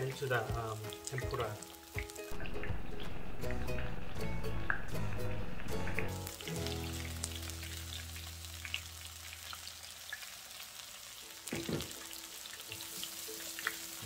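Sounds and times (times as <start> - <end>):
food deep-frying in oil: 0.0 - 14.0.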